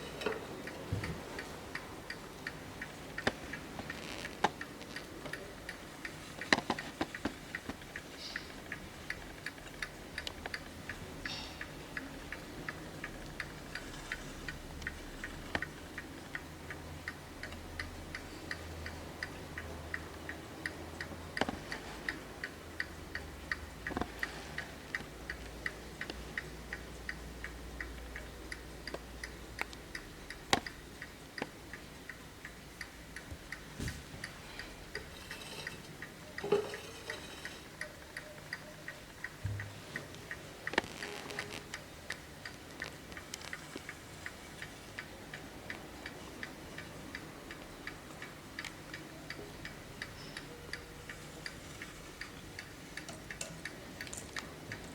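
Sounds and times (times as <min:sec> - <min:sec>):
clock ticking: 0:00.0 - 0:54.9.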